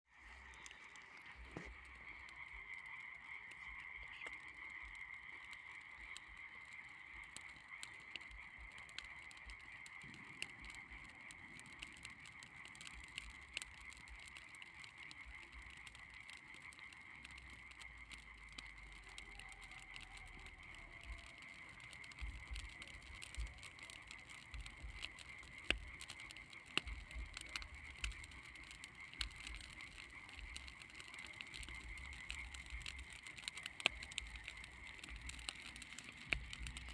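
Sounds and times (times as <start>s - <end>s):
bonfire crackling and popping: 0.1s - 36.9s.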